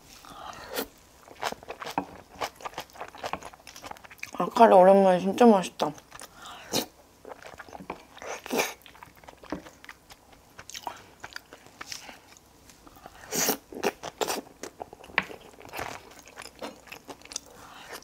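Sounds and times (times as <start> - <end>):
chewing and wet mouth sounds: 0.7 - 4.6, 5.8 - 18.0.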